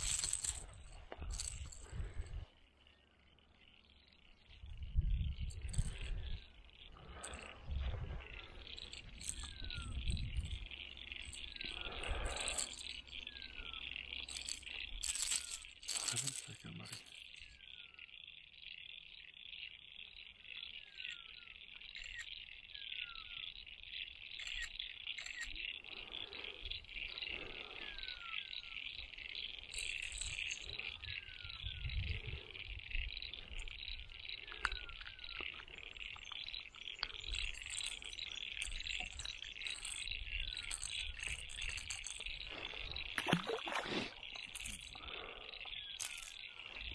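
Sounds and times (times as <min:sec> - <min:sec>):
frogs calling: 0:00.0 - 0:46.9.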